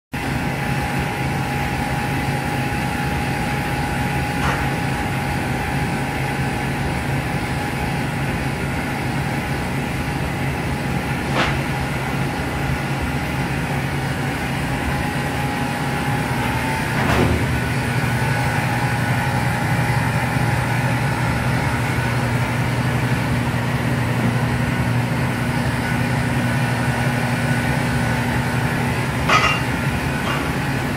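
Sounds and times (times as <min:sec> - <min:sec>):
oven humming with whine: 0:00.2 - 0:30.9.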